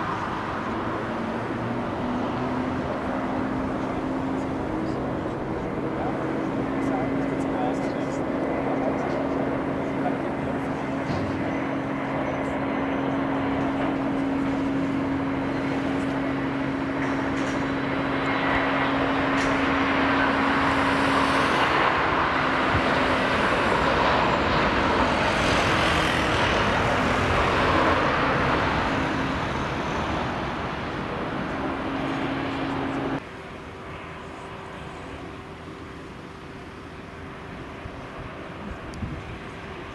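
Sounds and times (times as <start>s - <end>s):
jet engine hum and rush: 0.0s - 39.9s.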